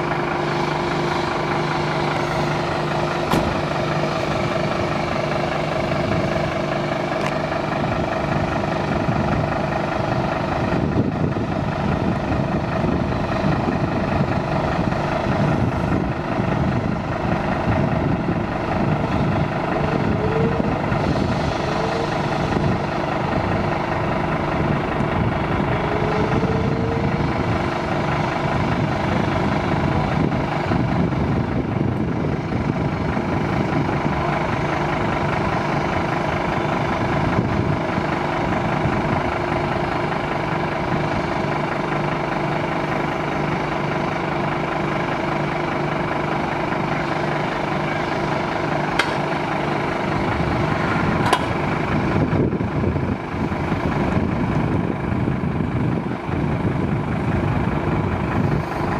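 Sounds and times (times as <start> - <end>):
machinery droning: 0.0 - 58.9.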